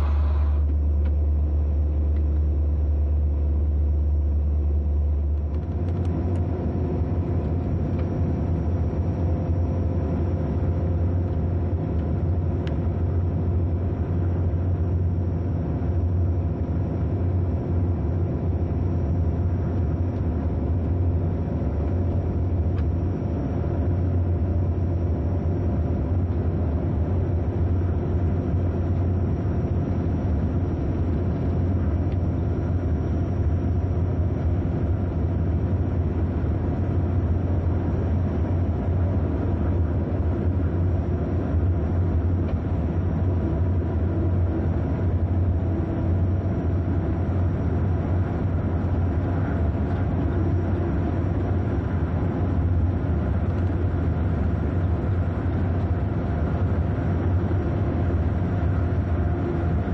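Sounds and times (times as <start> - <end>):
train rumbling with low hum: 0.0 - 59.9.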